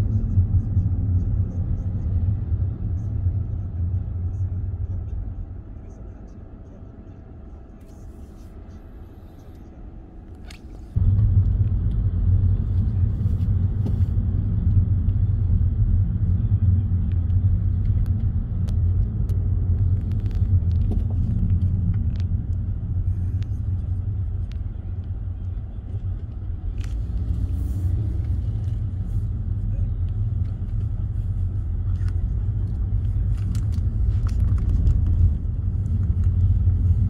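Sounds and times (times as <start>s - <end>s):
car cabin road and engine rumble: 0.0s - 37.0s
quiet low hum: 0.0s - 37.0s.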